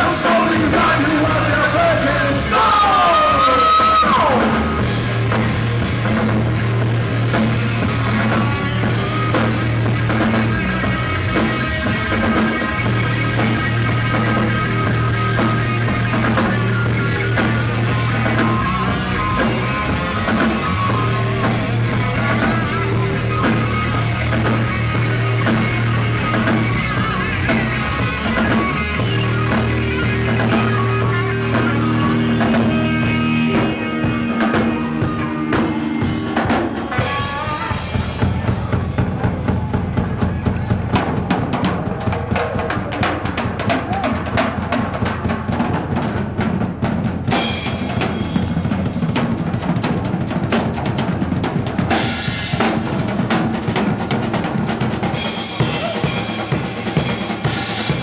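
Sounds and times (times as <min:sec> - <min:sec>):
drum solo: 0:00.0 - 0:58.0
rock band playing: 0:00.0 - 0:58.0.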